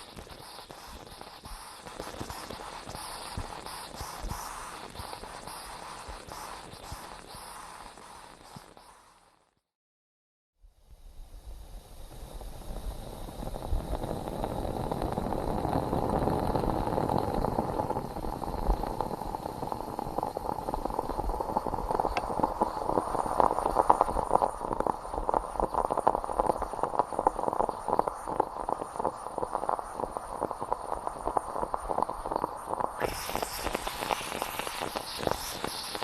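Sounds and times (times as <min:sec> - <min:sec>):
moka pot bubbling and sputtering: 0:00.0 - 0:09.5, 0:11.2 - 0:36.0.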